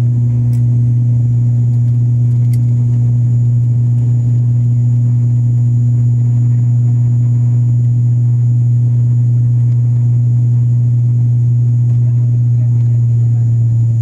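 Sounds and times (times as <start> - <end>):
turboprop engine droning: 0.0 - 14.0.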